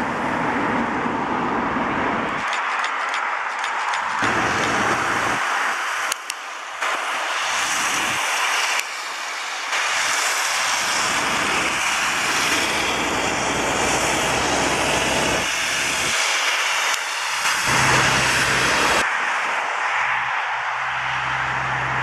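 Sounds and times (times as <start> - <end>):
jet engines rushing hiss: 0.0 - 22.0.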